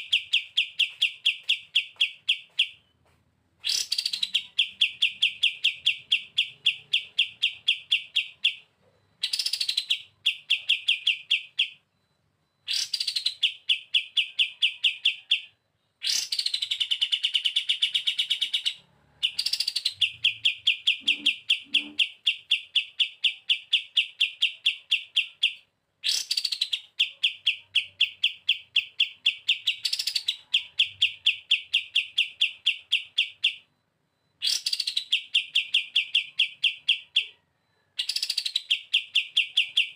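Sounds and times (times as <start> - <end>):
songbird buzzy trill: 0.0 - 11.8, 12.6 - 33.7, 34.3 - 37.4.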